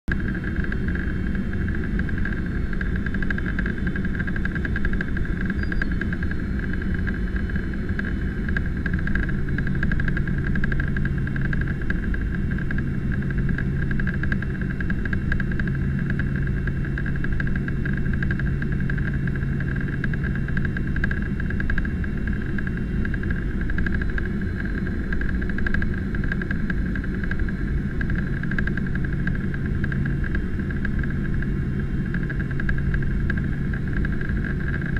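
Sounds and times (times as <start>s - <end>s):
airplane cabin engine rush: 0.1s - 34.9s
low steady hum: 0.1s - 34.9s.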